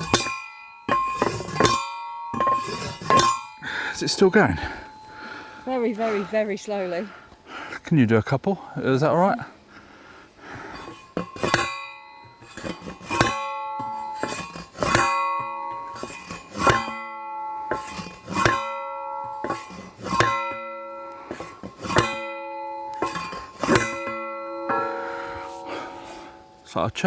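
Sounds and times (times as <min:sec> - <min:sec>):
post driver ringing blows: 0:00.0 - 0:06.0, 0:10.7 - 0:26.7.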